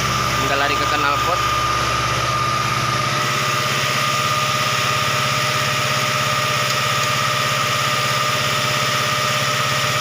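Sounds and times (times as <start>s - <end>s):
high whine: 0.0s - 10.0s.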